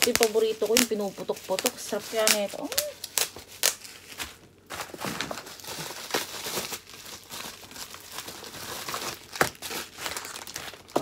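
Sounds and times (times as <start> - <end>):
bubble wrap crinkling: 0.0 - 11.0
bubble wrap snapping: 0.0 - 11.0.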